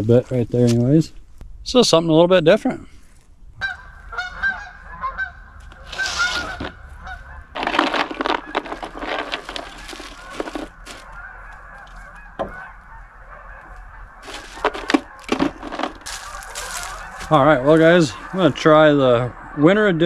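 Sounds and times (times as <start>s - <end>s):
geese honking: 0.0s - 20.0s
rustling bursts: 2.8s - 19.5s.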